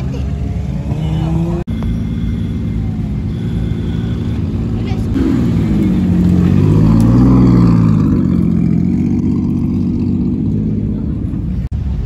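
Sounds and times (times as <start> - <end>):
car engine revving: 0.8 - 11.7.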